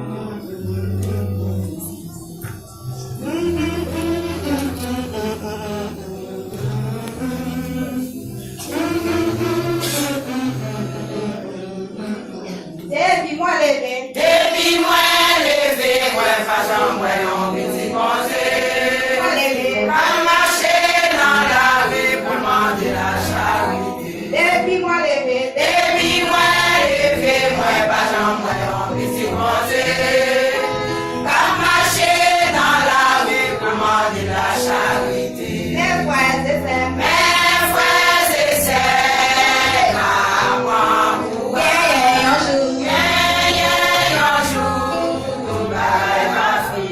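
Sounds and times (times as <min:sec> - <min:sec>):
church choir singing a hymn: 0:00.0 - 0:12.9, 0:13.8 - 0:46.9.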